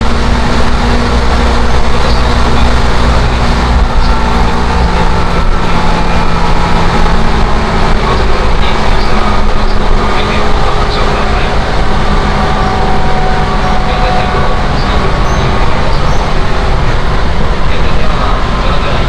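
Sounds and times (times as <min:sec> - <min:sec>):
train cabin rumble: 0:00.0 - 0:19.0.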